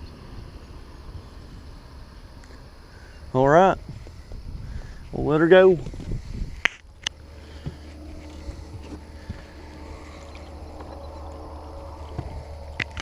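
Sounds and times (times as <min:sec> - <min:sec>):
boat low hum: 0:00.0 - 0:13.0.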